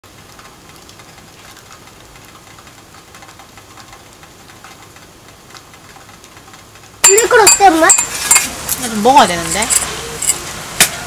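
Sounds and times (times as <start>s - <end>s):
faint fire crackles: 0.0s - 11.0s
firewood burning in stove: 0.0s - 11.0s.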